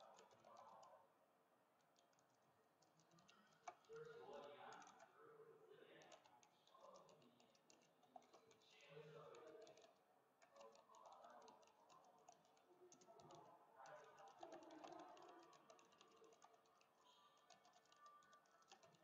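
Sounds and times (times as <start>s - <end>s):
typing on computer keyboard: 0.0s - 1.0s, 1.8s - 5.2s, 5.9s - 19.0s.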